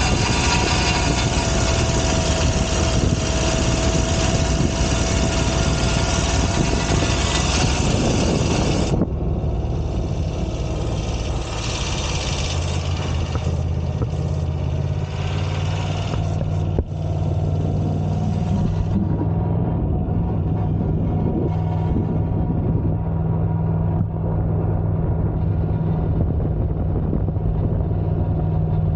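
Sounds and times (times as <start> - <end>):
motorcycle engine running: 0.0 - 28.9
wind noise rushing: 0.0 - 28.9.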